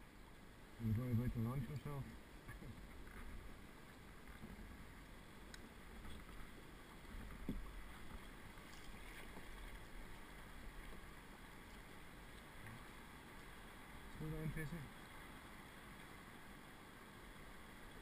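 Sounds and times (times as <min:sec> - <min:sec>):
water moving along hull: 0:00.0 - 0:18.0
paddle strokes: 0:01.7 - 0:16.2.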